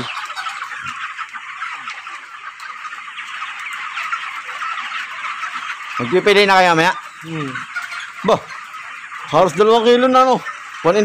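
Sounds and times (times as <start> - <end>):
chickens clucking and cheeping: 0.0 - 11.0.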